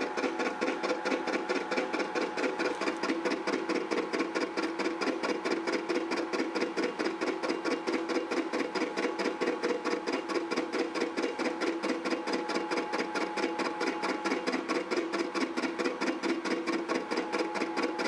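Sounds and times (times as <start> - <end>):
spindle drive hum: 0.0 - 18.0.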